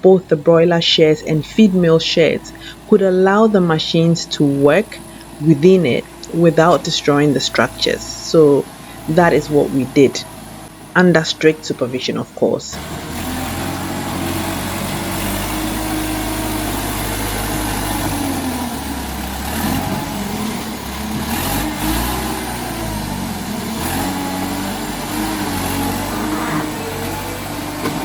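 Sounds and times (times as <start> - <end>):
earthmoving machine engine revving: 0.0 - 12.0, 12.7 - 28.0.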